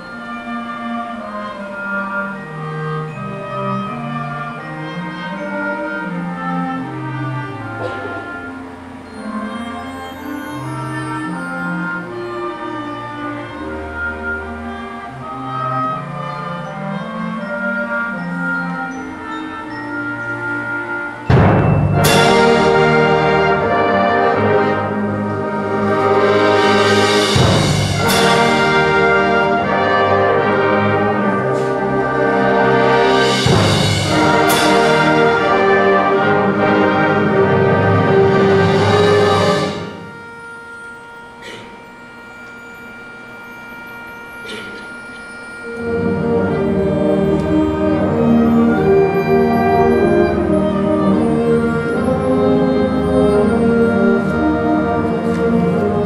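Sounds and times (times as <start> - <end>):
orchestral brass chords: 0.0 - 56.0.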